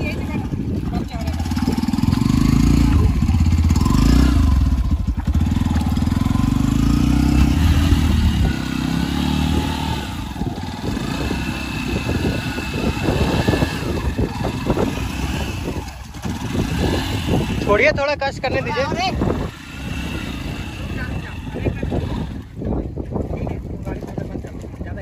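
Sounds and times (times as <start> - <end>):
motorcycle engine revving: 0.0 - 24.1.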